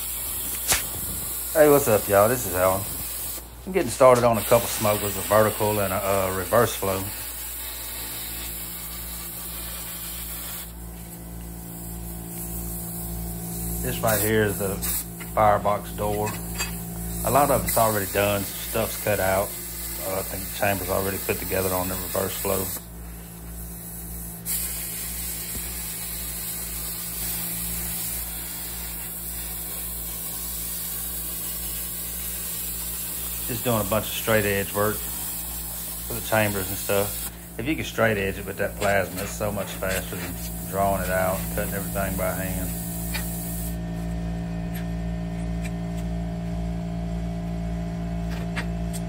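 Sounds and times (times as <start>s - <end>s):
plasma cutter hissing: 0.0s - 43.8s.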